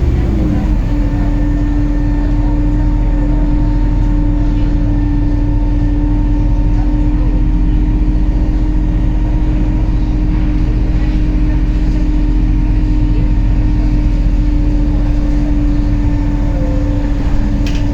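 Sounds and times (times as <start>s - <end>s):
bus engine drone: 0.0s - 17.9s
constant whine: 0.0s - 17.9s.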